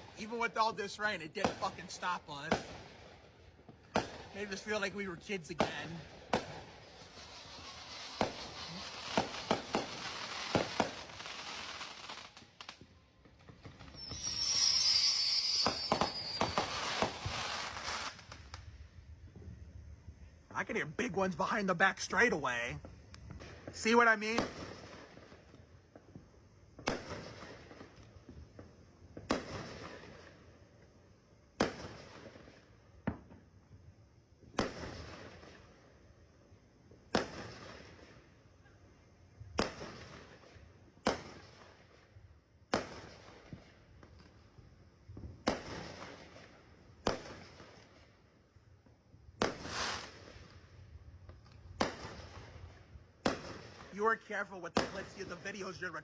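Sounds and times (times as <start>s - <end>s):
fireworks bursting with echo: 0.0s - 19.6s, 20.5s - 30.9s, 31.6s - 33.5s, 34.4s - 35.9s, 37.0s - 38.4s, 39.4s - 48.2s, 49.3s - 56.0s
fireworks crackle: 0.0s - 33.5s, 34.4s - 36.3s, 37.0s - 38.7s, 39.3s - 56.0s.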